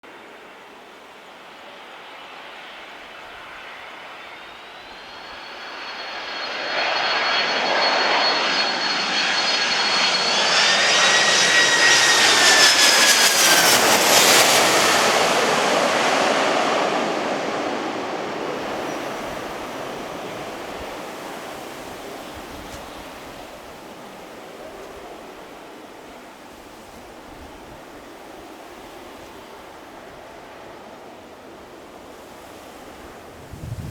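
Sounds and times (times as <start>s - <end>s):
jet airliner passing: 0.1s - 33.9s.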